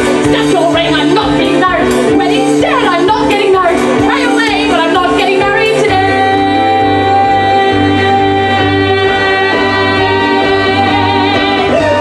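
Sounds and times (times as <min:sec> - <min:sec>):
piano accompaniment: 0:00.0 - 0:12.0.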